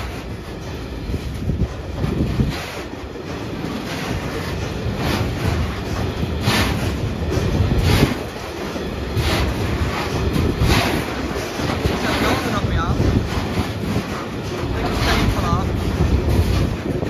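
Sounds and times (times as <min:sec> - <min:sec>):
freight train rumbling past: 0:00.0 - 0:17.0
wheels clattering over rail joints: 0:00.0 - 0:17.0.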